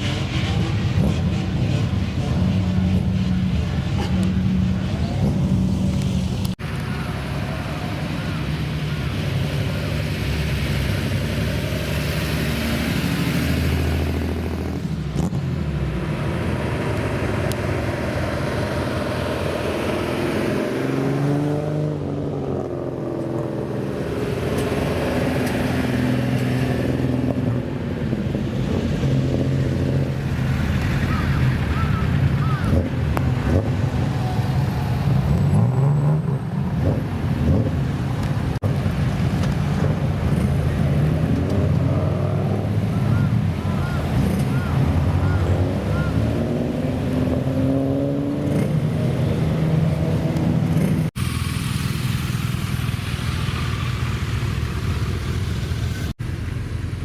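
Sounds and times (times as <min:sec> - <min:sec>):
cars revving driving past: 0:00.0 - 0:57.0.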